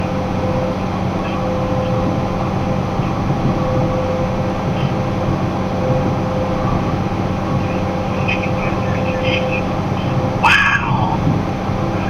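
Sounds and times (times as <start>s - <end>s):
constant hum: 0.0s - 12.0s
road noise: 0.0s - 12.0s
truck engine drone: 0.0s - 12.0s.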